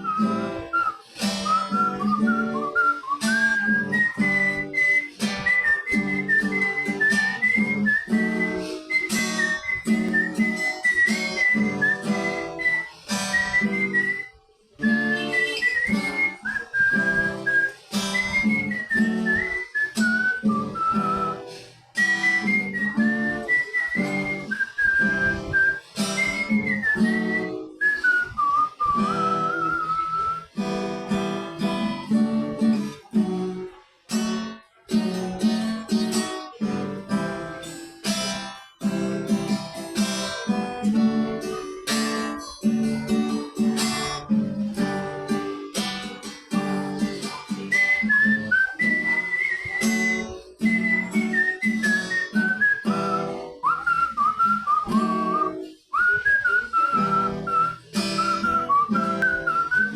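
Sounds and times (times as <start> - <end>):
acoustic guitar strumming: 0.0 - 59.9
whistled melody: 0.0 - 59.9.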